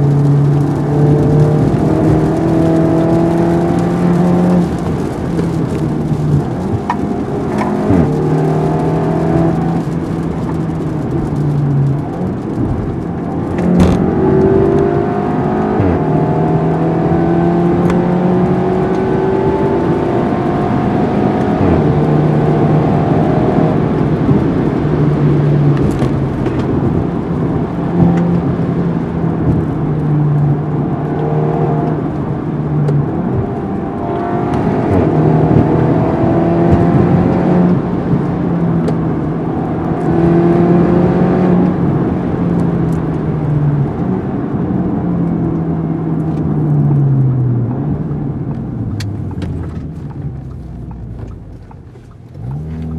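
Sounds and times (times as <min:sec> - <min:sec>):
car exhaust drone: 0:00.0 - 0:52.9
road noise: 0:00.0 - 0:52.9.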